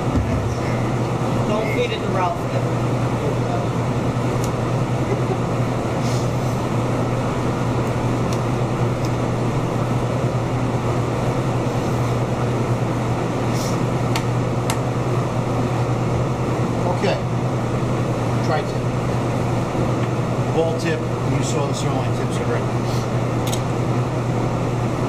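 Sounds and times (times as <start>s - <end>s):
ventilation fan humming: 0.0s - 25.0s.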